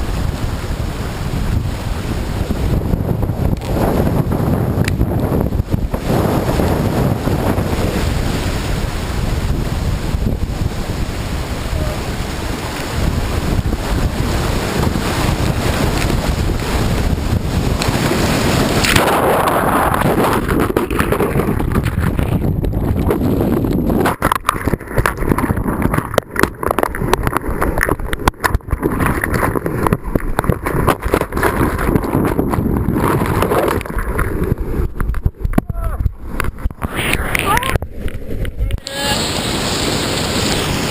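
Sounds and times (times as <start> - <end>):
choppy drops and crackles: 0.0 - 40.9
whitewater rushing and splashing: 0.0 - 40.9.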